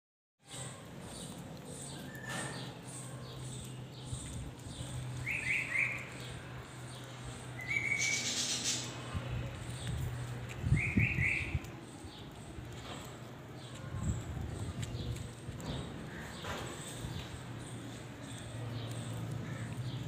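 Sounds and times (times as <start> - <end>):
birds chirping: 0.5 - 20.0.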